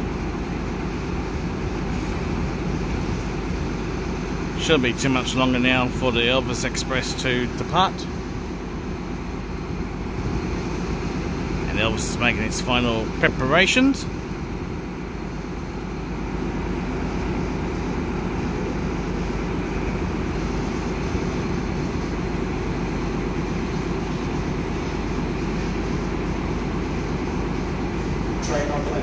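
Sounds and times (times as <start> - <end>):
diesel train engines idling: 0.0 - 29.0.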